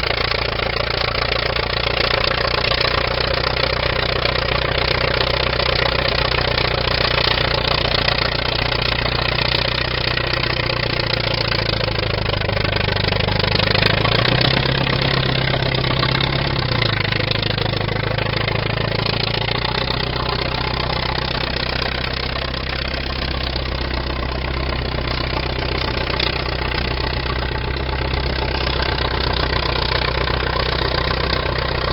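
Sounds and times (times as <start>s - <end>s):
bulldozer engine idling: 0.0s - 31.9s.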